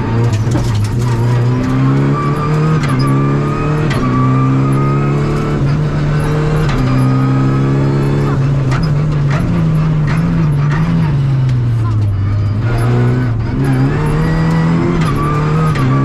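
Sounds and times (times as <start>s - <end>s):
car engine revving through gears: 0.0s - 16.0s.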